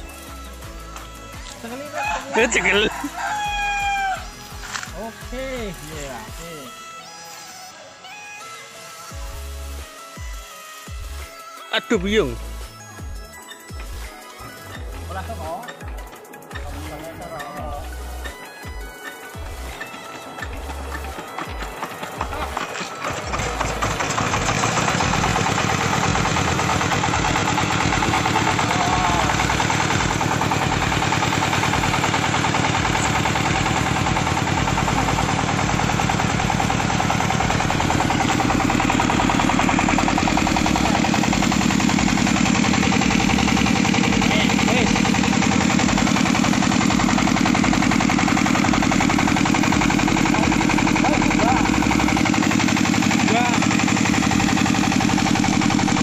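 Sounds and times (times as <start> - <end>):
diesel generator engine running: 0.0 - 7.3, 9.2 - 56.0.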